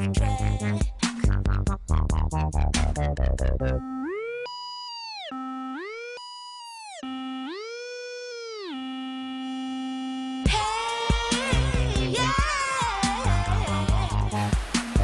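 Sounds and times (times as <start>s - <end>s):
electronic music beat: 0.0s - 15.0s.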